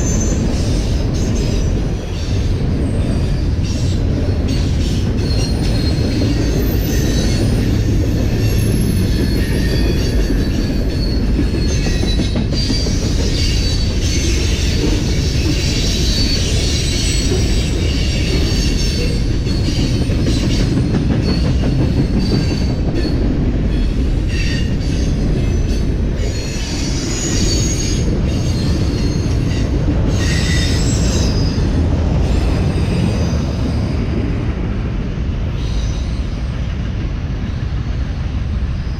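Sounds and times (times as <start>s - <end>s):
wheel squeal: 0.0s - 23.2s, 24.3s - 34.0s
train cars rumbling past: 0.0s - 38.9s.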